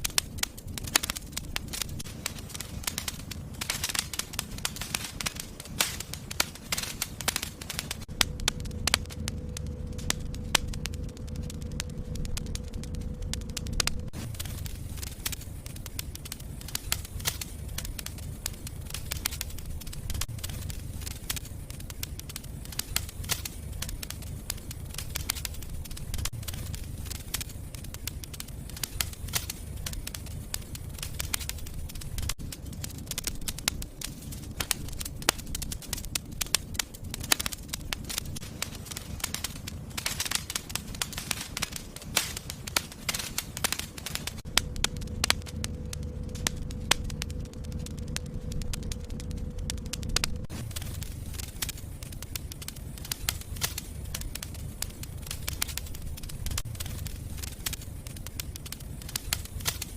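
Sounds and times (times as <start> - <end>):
fire crackling and popping: 0.0 - 59.9
low steady rumble: 0.0 - 59.9.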